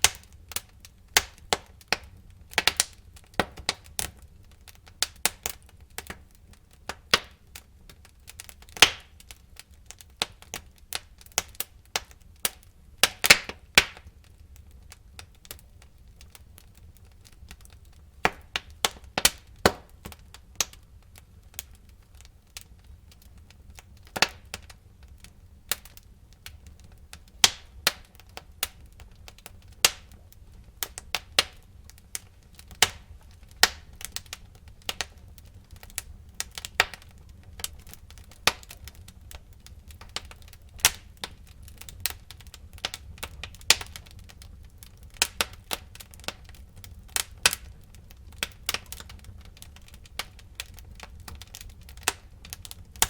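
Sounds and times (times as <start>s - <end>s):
fire flames rumbling: 0.0s - 53.0s
fire popping and snapping: 0.0s - 53.0s.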